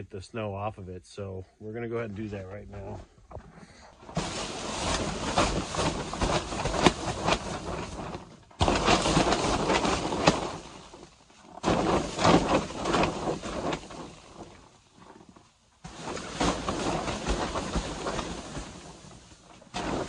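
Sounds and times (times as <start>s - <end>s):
snow sliding off fabric roof: 1.8s - 20.0s.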